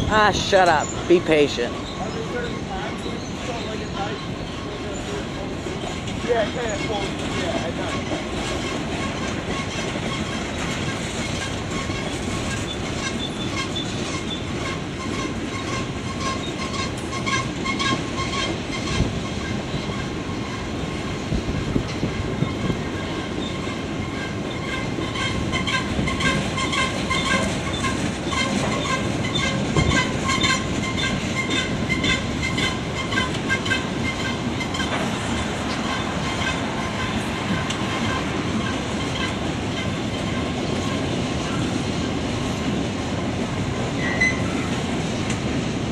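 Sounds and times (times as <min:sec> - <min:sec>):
train wheels clacking over rail joints: 0:00.0 - 0:45.9
wheel squeals: 0:01.8 - 0:20.6, 0:22.0 - 0:35.0, 0:35.8 - 0:41.7, 0:44.0 - 0:44.6.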